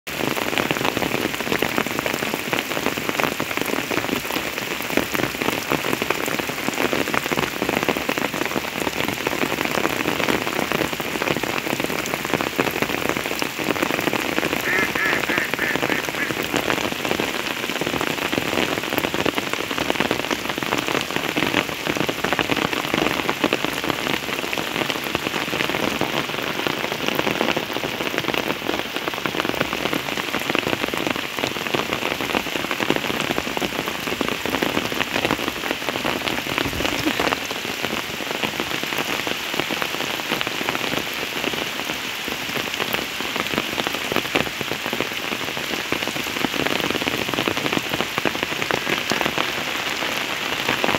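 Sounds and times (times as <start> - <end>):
heavy rain on hard surfaces: 0.0 - 50.9.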